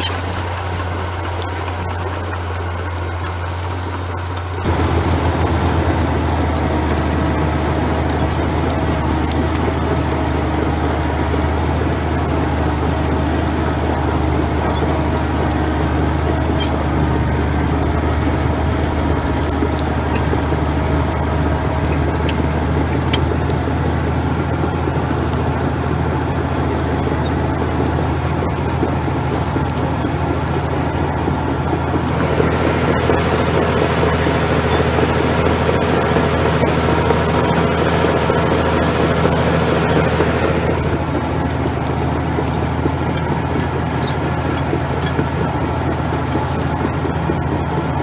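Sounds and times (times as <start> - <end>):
diesel crawler engine under load: 0.0 - 48.0.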